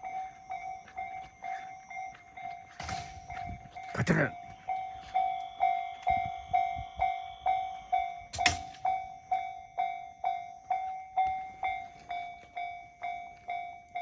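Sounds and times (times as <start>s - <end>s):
level crossing bell ringing: 0.0s - 14.0s.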